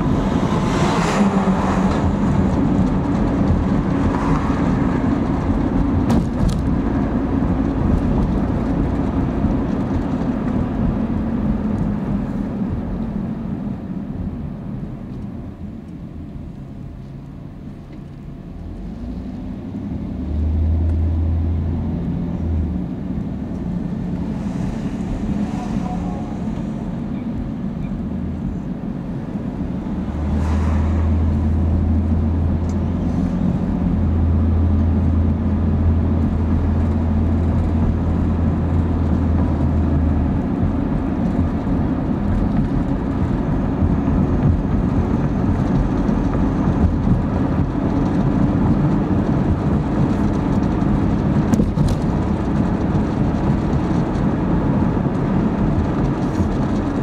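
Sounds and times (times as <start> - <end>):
car engine drone: 0.0 - 57.0
tyre road noise: 0.0 - 57.0.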